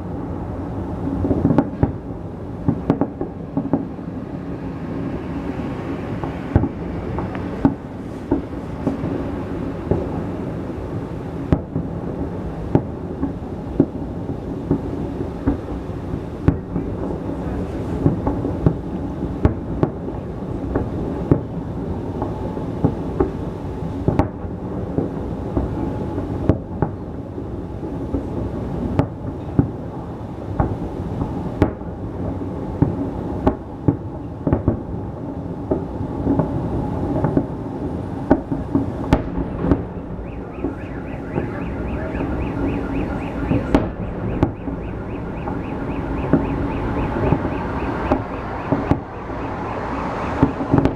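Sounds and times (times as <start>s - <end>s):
sharp firework bangs: 0.0s - 27.2s, 27.8s - 50.9s
low rumble of firework booms: 0.0s - 50.9s.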